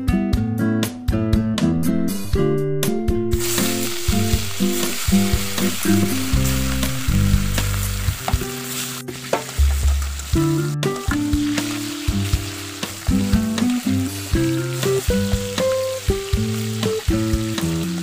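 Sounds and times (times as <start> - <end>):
guitar music: 0.0 - 18.0
fish sizzling in hot oil: 3.3 - 18.0.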